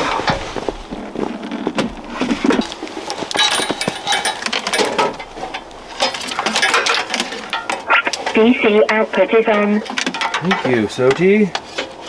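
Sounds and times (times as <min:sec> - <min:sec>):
equipment clicks and rattling: 0:00.0 - 0:12.0.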